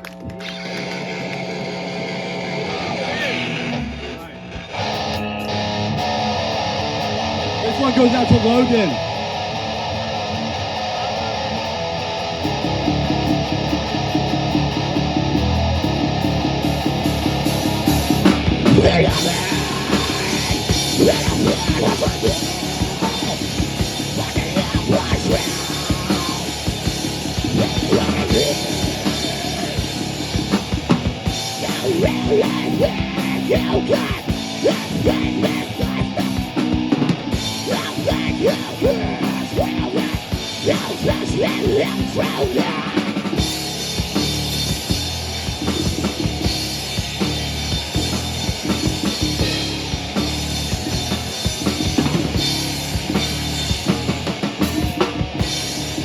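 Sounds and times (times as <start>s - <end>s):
rock band playing loud: 0.0s - 56.0s.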